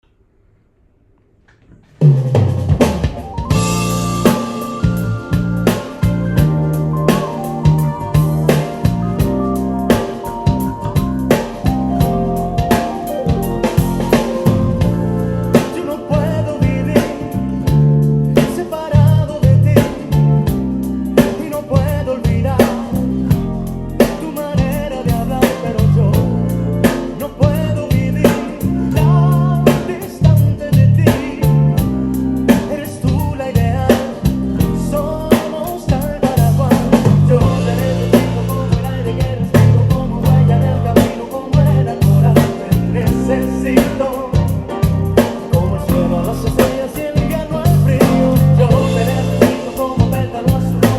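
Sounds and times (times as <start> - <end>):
backing track with drum kit: 1.6 - 50.9
electric bass playing low notes: 2.3 - 50.9.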